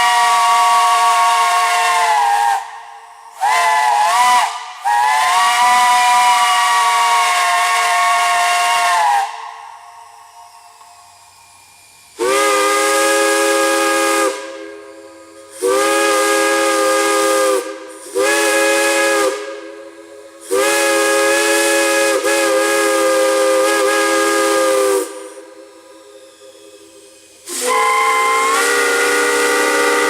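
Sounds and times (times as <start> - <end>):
steam hissing: 0.0 - 30.0
steam whistle blasts: 0.0 - 30.0.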